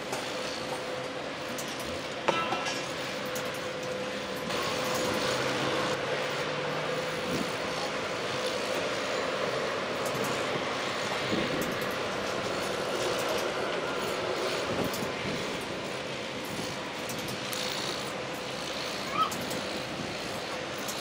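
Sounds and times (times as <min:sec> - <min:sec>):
heavy construction machinery drone: 0:00.0 - 0:21.0.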